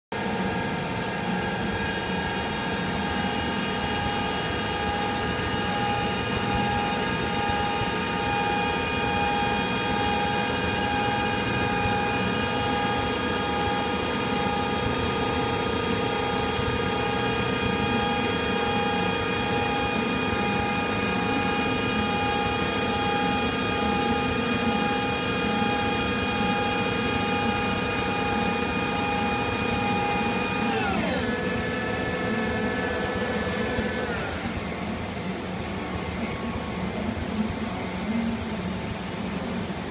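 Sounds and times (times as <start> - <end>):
whining gear tones: 0.2 - 34.9
lathe motor hum: 0.2 - 36.7.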